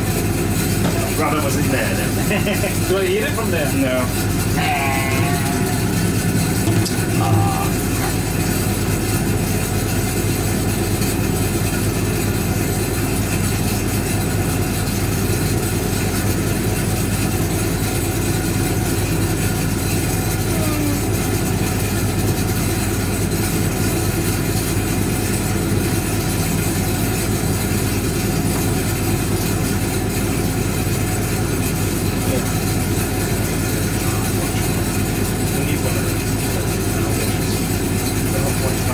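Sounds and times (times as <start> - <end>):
washing machine motor humming: 0.0 - 38.9.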